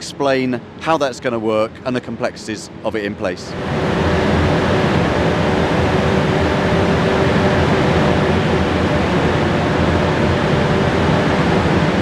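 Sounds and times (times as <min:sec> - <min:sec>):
industrial machinery hum: 0:00.0 - 0:12.0
steady low tones: 0:00.0 - 0:12.0.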